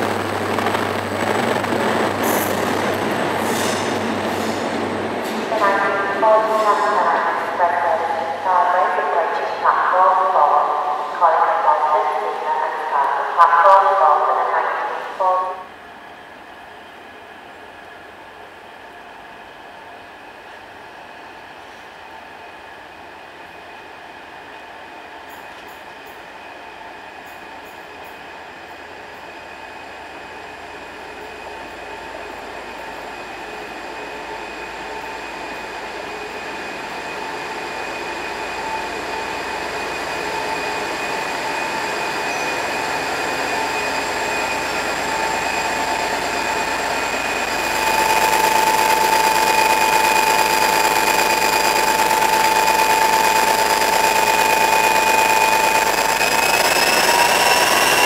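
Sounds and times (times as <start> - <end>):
diesel locomotive engine whining: 0.0 - 58.0.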